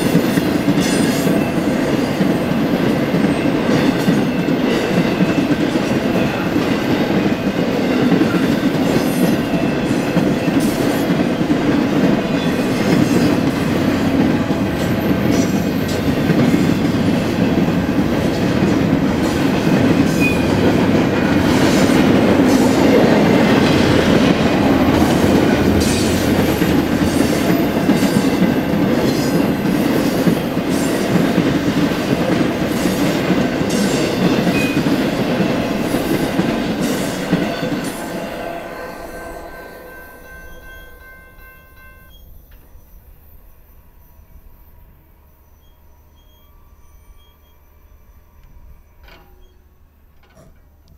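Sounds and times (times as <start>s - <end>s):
freight train wheels rumbling on rail: 0.0s - 50.9s.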